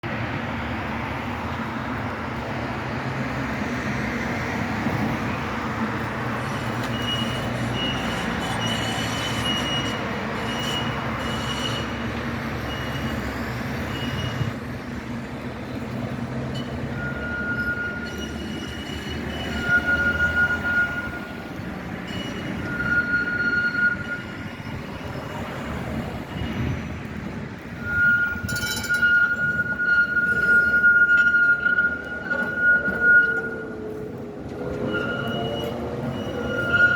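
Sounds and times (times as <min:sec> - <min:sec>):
tram rumbling: 0:00.0 - 0:36.9
tram wheel squeal: 0:01.1 - 0:36.9.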